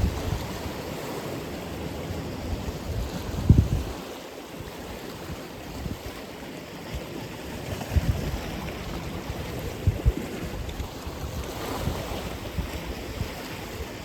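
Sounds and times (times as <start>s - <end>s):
ocean waves breaking: 0.0s - 14.0s.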